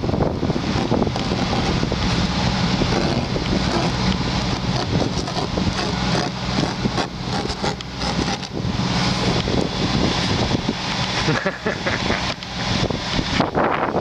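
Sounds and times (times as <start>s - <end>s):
car engine idling: 0.0s - 13.4s
wind buffeting microphone: 0.0s - 14.0s.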